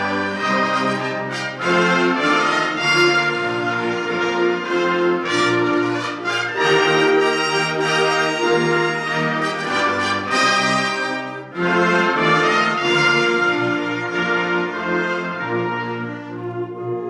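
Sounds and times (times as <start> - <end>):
brass holding chords: 0.0 - 17.0.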